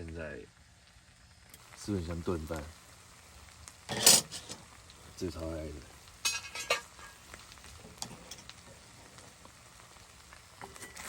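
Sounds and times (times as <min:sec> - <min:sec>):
faint crackling hiss: 0:00.0 - 0:11.0.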